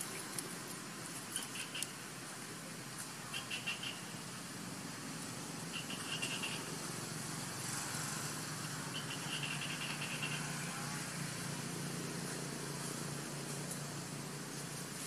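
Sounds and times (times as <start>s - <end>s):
low engine hum: 0.0s - 15.0s
outdoor hiss: 0.0s - 15.0s.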